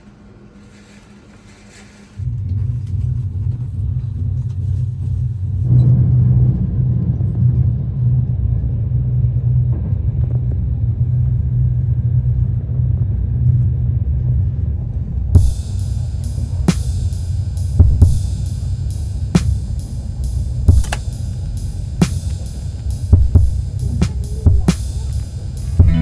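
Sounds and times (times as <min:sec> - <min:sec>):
steady low rumble: 0:02.2 - 0:26.0.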